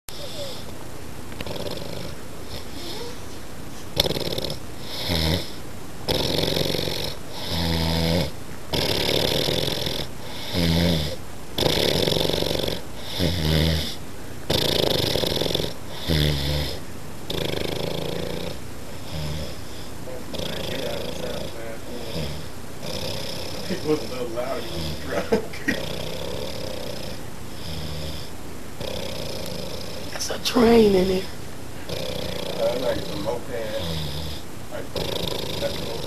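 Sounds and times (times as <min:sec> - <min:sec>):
man snoring: 0:00.1 - 0:00.7, 0:01.4 - 0:03.2, 0:04.0 - 0:30.1, 0:31.9 - 0:36.0.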